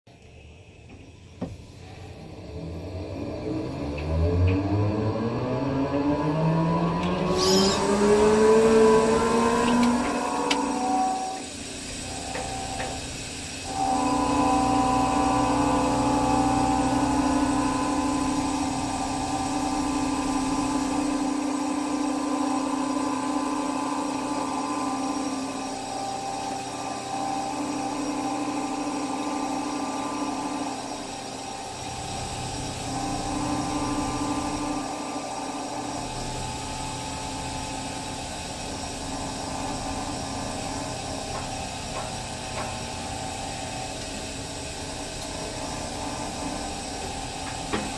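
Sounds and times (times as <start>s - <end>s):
mechanical hum with droning tone: 0.1s - 47.9s.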